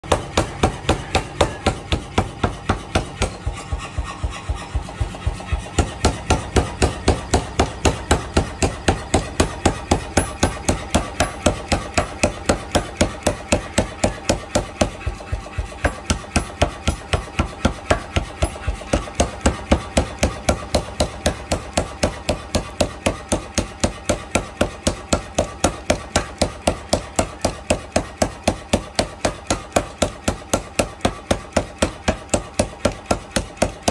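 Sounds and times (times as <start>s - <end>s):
machine running: 0.0s - 33.9s
power hammer striking metal: 0.0s - 33.9s.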